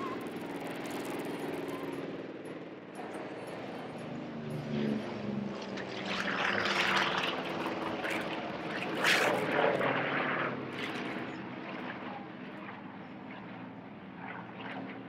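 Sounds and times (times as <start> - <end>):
propeller aircraft droning overhead: 0.0 - 15.0.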